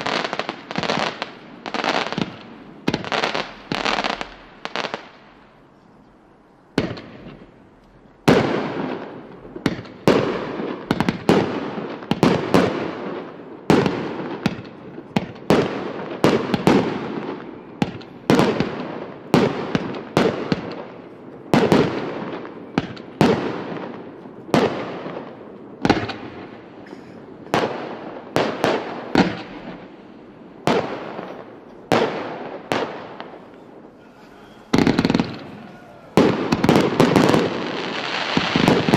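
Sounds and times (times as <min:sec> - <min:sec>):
fireworks bangs: 0:00.0 - 0:05.5, 0:06.7 - 0:38.9.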